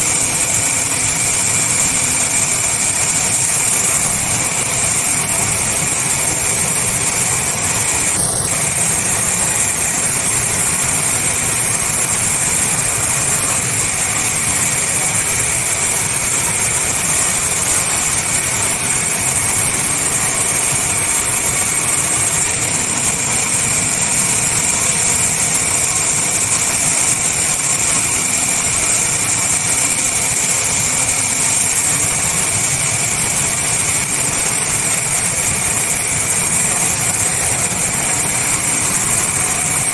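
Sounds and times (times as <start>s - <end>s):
sawmill machinery running: 0.0s - 39.9s
steady high whine: 0.0s - 39.9s.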